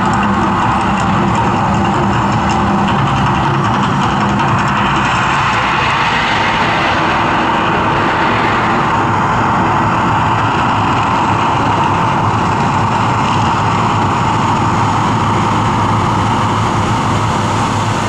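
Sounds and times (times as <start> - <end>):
loud rushing roar: 0.0 - 18.0.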